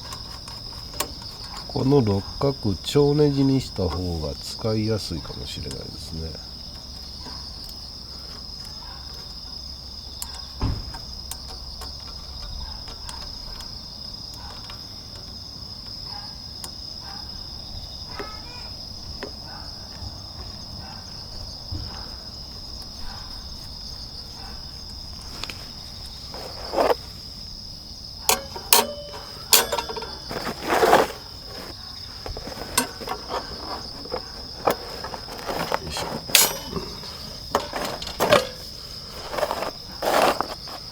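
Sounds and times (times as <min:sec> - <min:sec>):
camp gear knocking and clinking: 0:00.0 - 0:40.9
crickets chirping: 0:00.0 - 0:40.9.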